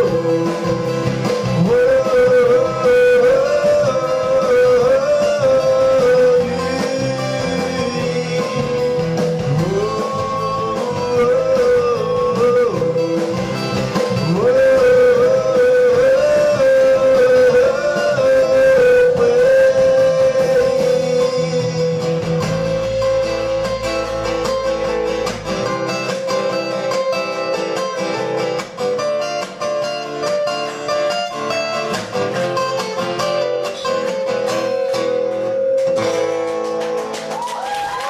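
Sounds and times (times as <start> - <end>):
acoustic guitars picking: 0.0 - 37.6.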